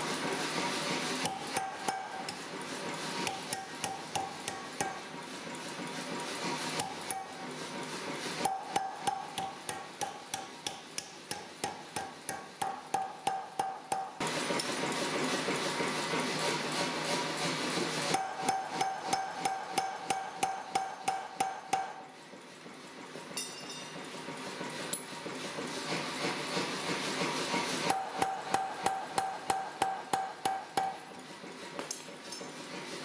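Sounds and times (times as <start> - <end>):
power hammer striking hot steel: 0.0 - 22.1, 26.0 - 31.2.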